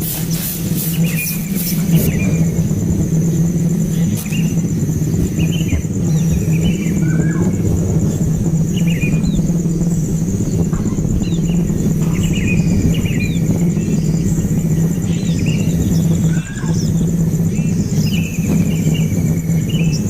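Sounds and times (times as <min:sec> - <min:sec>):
baby birds cheeping: 0:00.0 - 0:20.0
loud steady low hum: 0:00.0 - 0:20.0
thin high whine: 0:00.0 - 0:20.0.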